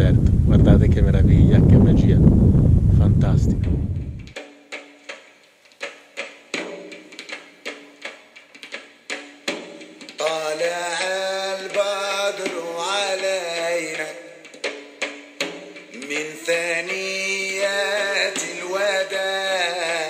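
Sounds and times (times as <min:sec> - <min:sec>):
drum beating: 0:03.3 - 0:20.0.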